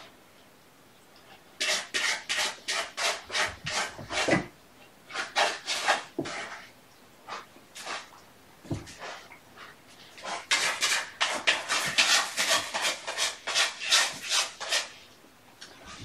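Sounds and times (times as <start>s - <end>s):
cat litter scratching: 1.6s - 4.5s, 5.1s - 16.0s.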